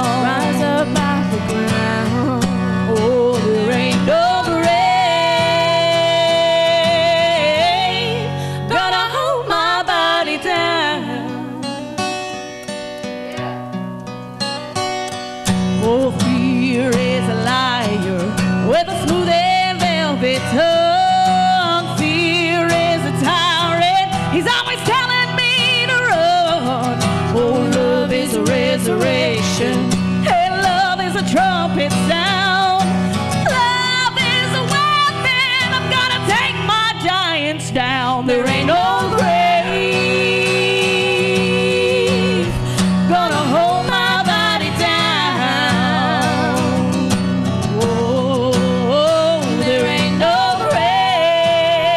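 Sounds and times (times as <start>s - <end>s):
woman singing into microphone: 0.0s - 12.1s, 15.7s - 51.9s
strummed acoustic guitar: 0.0s - 51.9s.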